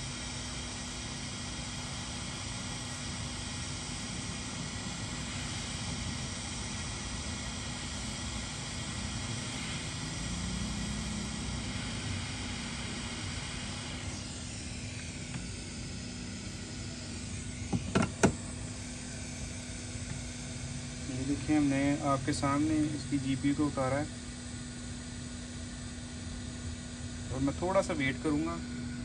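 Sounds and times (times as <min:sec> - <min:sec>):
hot air gun hissing: 0:00.0 - 0:24.0.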